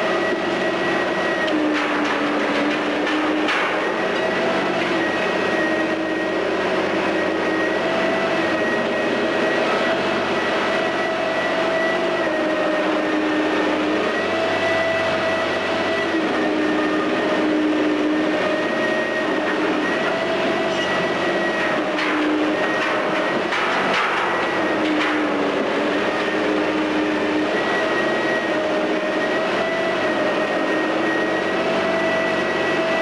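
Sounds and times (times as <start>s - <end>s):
crane diesel engine running: 0.0s - 33.0s.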